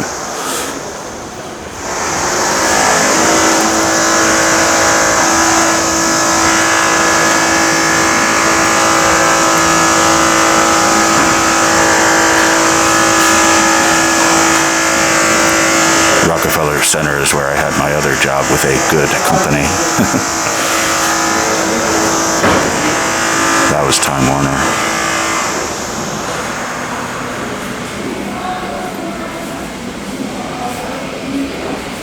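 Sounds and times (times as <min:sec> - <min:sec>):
mechanical drone with hum and hiss: 0:00.0 - 0:32.0.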